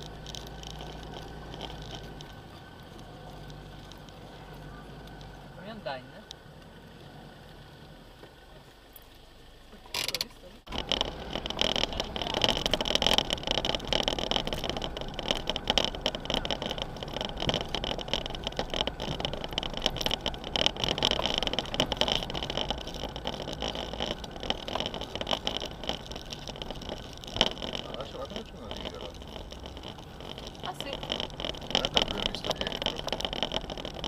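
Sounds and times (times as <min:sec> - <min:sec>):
vehicle engine: 0:00.0 - 0:34.0.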